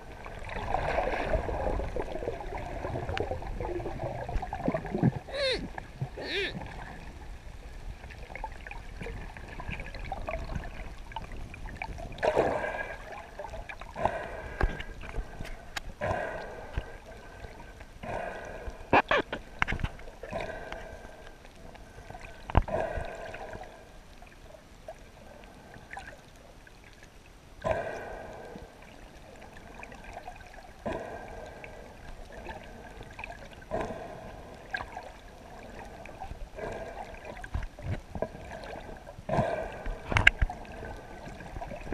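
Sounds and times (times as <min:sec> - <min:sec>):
underwater gurgling: 0:00.0 - 0:41.9.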